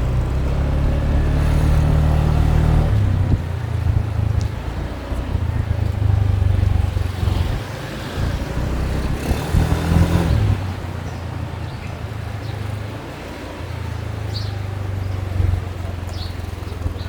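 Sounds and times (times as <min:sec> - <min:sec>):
motorbike engine rumble: 0:00.0 - 0:17.0.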